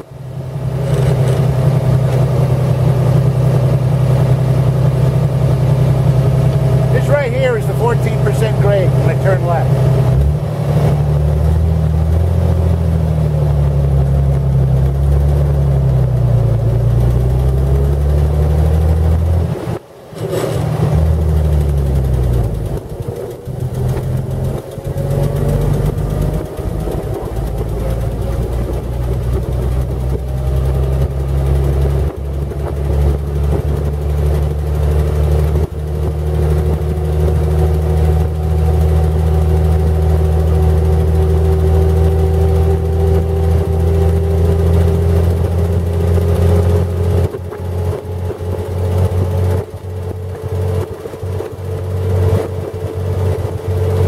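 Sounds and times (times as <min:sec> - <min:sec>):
old car engine running: 0:00.0 - 0:54.0.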